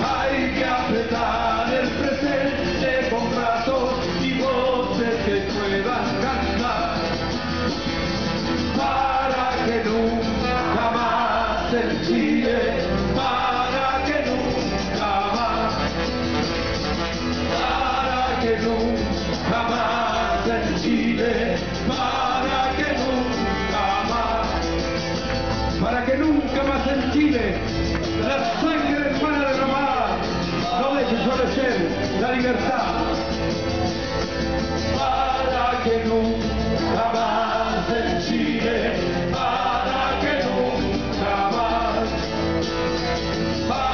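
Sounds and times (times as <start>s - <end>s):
man singing: 0.0s - 7.3s, 8.6s - 16.3s, 17.4s - 25.1s, 25.8s - 33.5s, 34.9s - 42.5s, 43.6s - 43.9s
live band playing: 0.0s - 43.9s.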